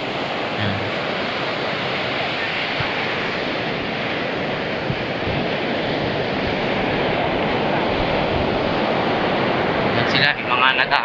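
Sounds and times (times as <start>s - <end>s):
ocean waves on a beach: 0.0s - 11.0s
wind buffeting microphone: 0.0s - 11.0s.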